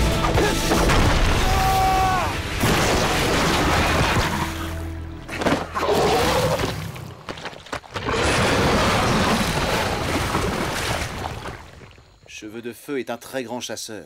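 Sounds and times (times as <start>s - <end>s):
mud and water splashing: 0.2s - 12.3s.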